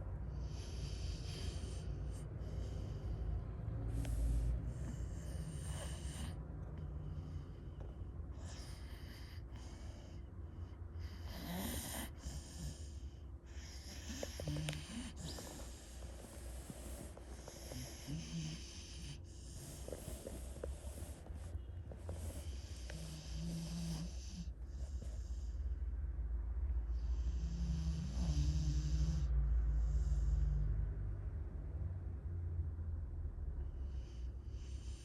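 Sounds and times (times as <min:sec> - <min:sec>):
dog snoring: 0:00.0 - 0:31.1, 0:33.1 - 0:35.0.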